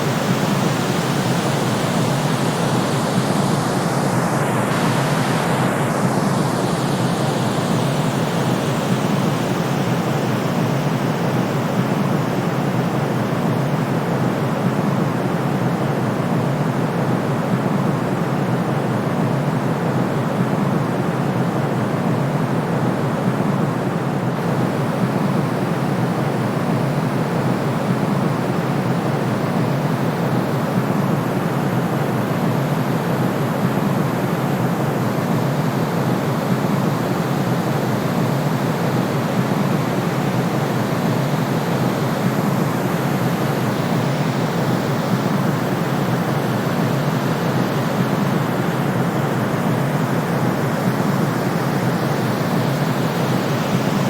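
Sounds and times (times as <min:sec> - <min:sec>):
white noise: 0:00.0 - 0:54.0.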